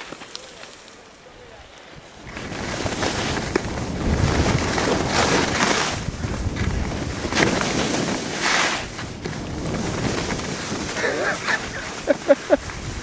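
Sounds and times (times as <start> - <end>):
wind rushing over microphone: 1.5 - 13.0
skis scraping over snow: 1.8 - 13.0.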